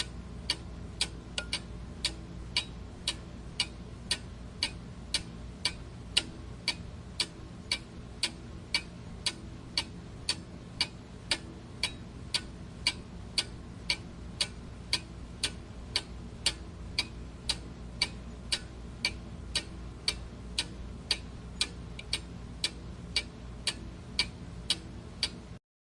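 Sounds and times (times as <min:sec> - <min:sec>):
clock ticking: 0:00.0 - 0:25.5
faint steady hum: 0:00.0 - 0:25.6.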